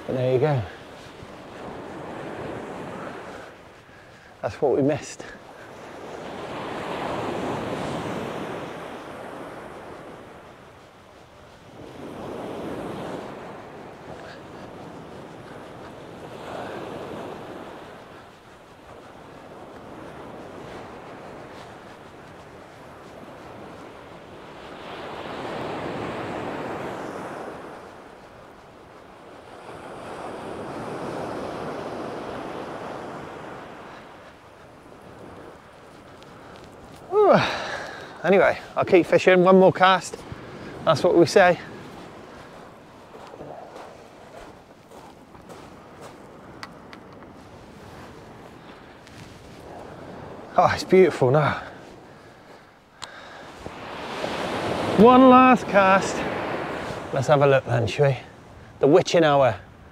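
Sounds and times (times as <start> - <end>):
waves breaking on shingle beach: 0.0 - 59.9.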